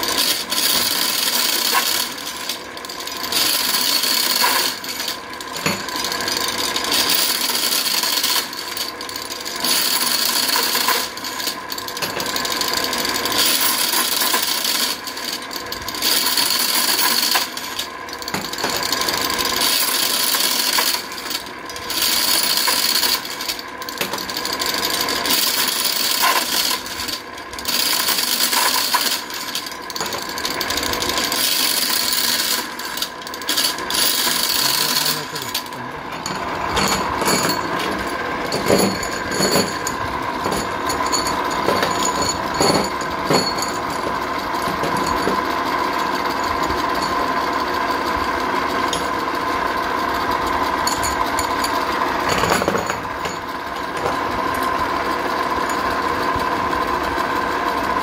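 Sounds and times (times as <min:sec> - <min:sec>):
metal nuts clattering on machine: 0:00.0 - 0:49.4, 0:50.2 - 0:57.2.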